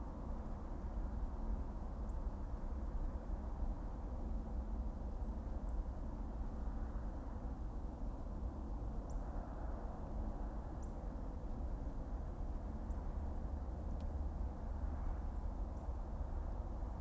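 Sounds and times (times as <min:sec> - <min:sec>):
car engine and tyres rumble: 0:00.1 - 0:17.0.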